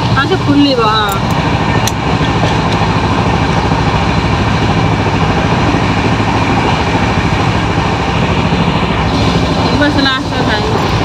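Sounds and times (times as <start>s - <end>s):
train carriage rumble and rattle: 0.0s - 11.0s.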